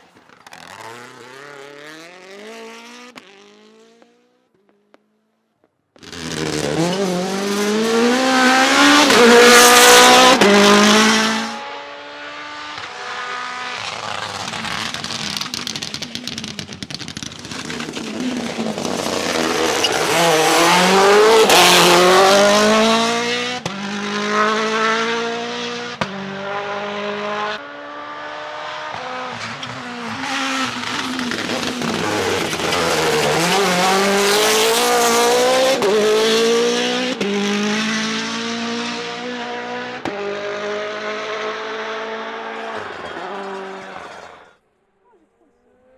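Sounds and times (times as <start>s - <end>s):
rally car engines revving: 0.0s - 4.4s, 6.0s - 44.6s.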